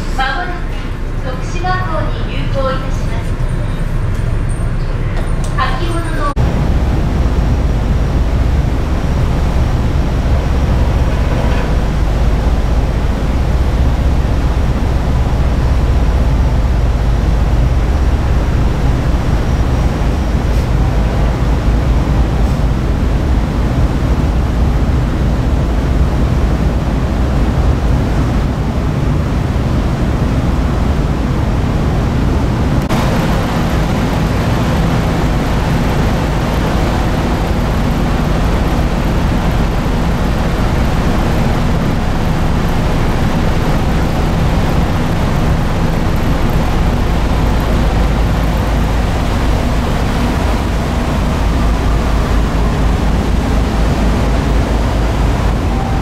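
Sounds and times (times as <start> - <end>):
ship engines rumbling: 0.0 - 56.0.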